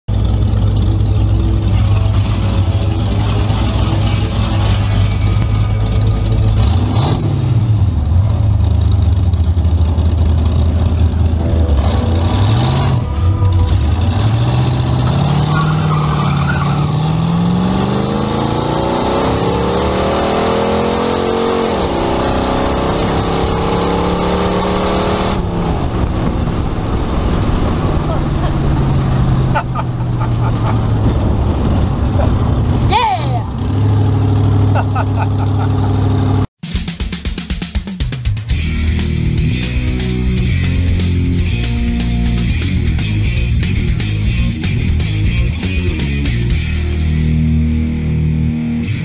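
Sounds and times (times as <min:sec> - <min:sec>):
car engine idling and revving: 0:00.1 - 0:36.6, 0:38.0 - 0:49.0.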